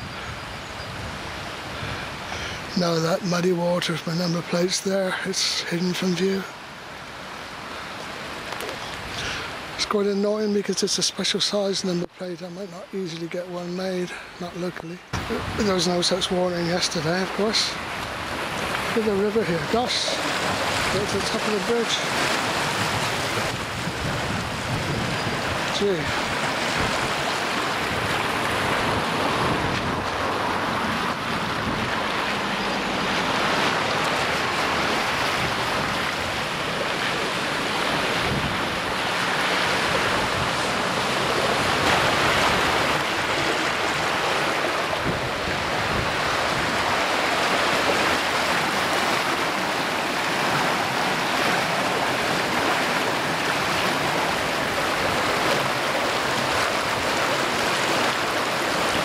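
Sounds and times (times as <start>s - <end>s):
river rushing and churning: 0.0s - 59.0s.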